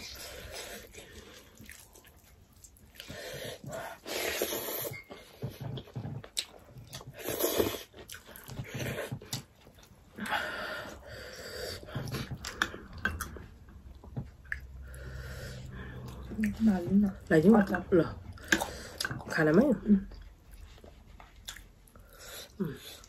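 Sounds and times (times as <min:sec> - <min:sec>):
chewing and lip-smacking: 0:00.0 - 0:11.0, 0:11.8 - 0:17.7, 0:20.1 - 0:23.0.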